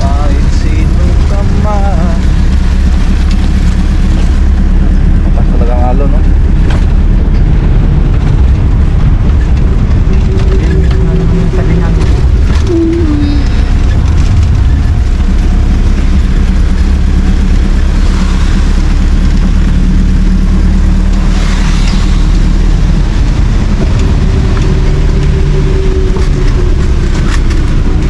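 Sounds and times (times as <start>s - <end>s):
motor engine droning: 0.0s - 28.0s.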